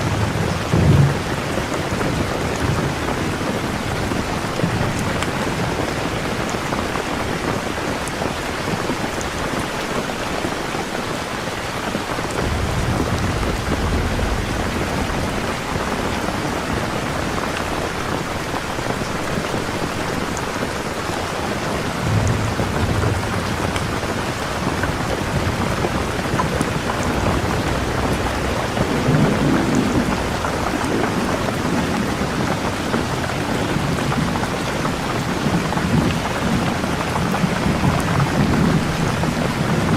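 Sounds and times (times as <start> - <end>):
low thunder rumbling: 0.0 - 7.7, 12.0 - 39.9
steady rain falling: 0.0 - 39.9.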